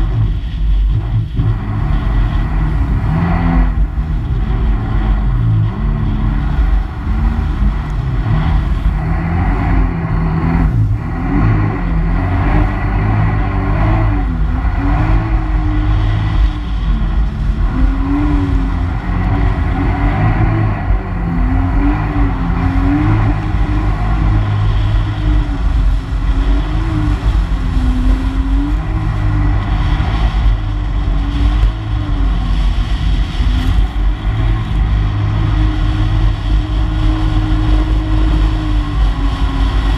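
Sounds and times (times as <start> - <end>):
personal watercraft engine revving: 0.0 - 39.9
water rushing: 0.0 - 39.9
wind: 0.0 - 39.9.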